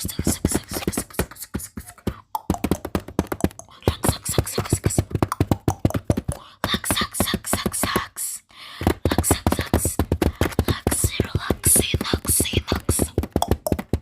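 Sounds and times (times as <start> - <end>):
fingertips tapping on camera: 0.0 - 14.0.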